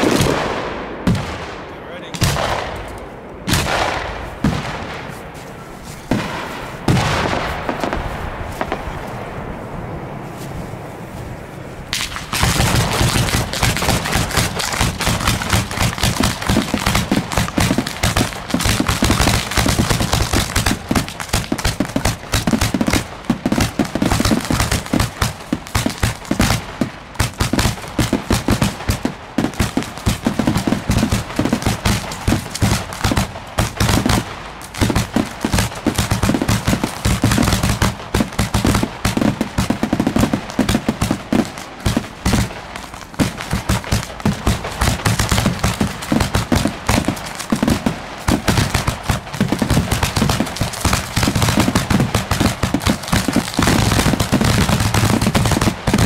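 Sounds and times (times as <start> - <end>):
fireworks bangs and crackle: 0.0 - 56.0.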